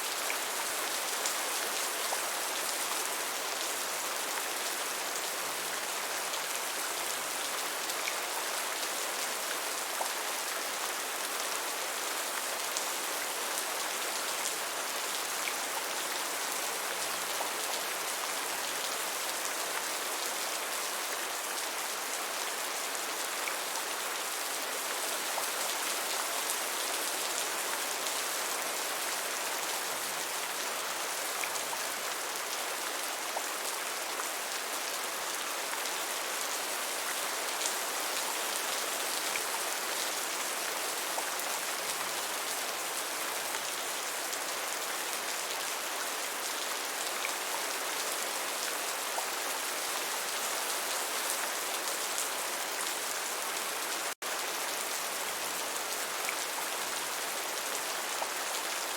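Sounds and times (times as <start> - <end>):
gentle rain falling on a surface: 0.0 - 58.9.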